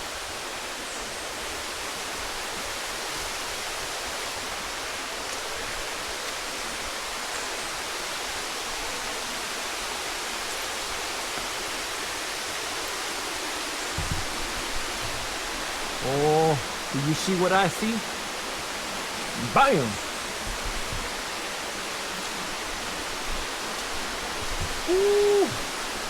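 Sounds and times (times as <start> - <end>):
waterfall and stream rushing: 0.0 - 26.0.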